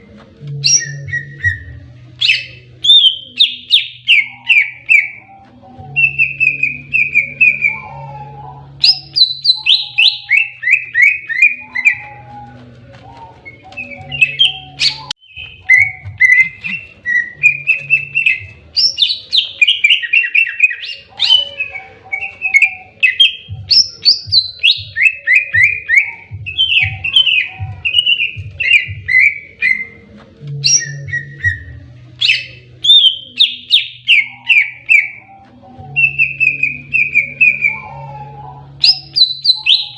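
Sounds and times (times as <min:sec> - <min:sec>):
bird singing whistled notes: 0:00.6 - 0:30.0, 0:30.6 - 0:39.9.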